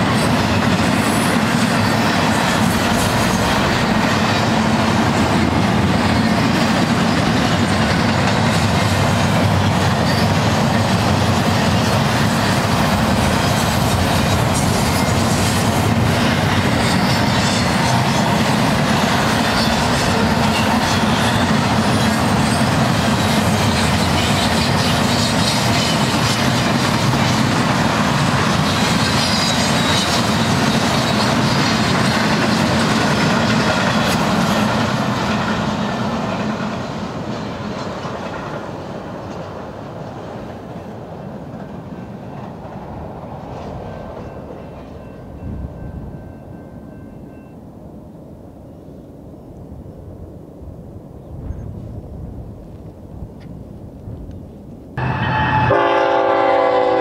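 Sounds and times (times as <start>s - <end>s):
train wheels on rails: 0.0s - 48.9s, 51.2s - 57.0s.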